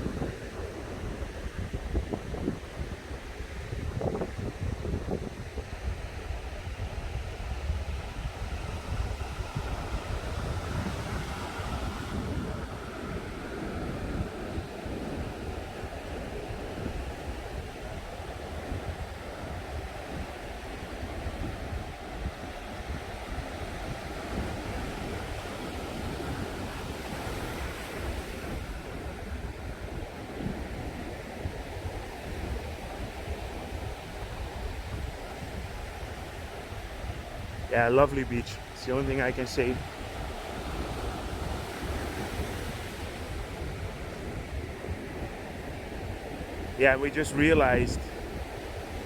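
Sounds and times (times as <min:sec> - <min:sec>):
surf washing onto beach: 0:00.0 - 0:49.0
wind buffeting microphone: 0:00.0 - 0:49.0.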